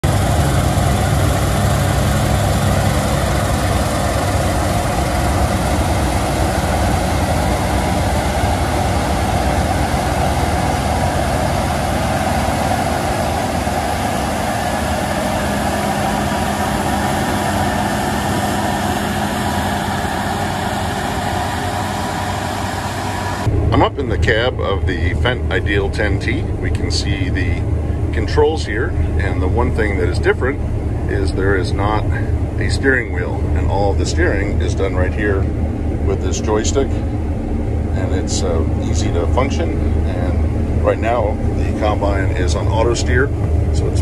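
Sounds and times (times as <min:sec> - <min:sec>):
combine harvester heavy drone: 0:00.0 - 0:44.0.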